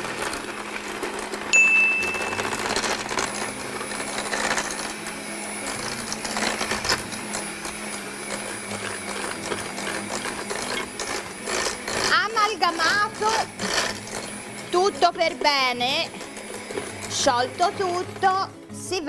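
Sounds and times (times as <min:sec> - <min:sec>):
beaters scraping metal bowl: 0:00.0 - 0:19.0
electric hand mixer running: 0:00.0 - 0:19.0.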